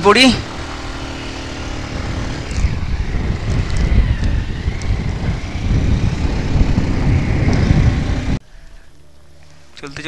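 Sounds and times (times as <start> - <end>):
wind buffeting microphone: 0.3 - 8.4.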